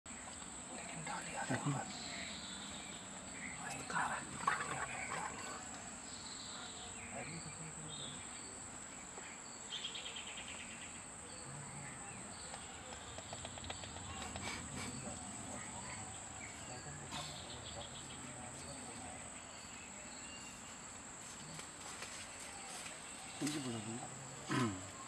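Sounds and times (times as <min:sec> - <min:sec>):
insects droning: 0:00.1 - 0:25.0.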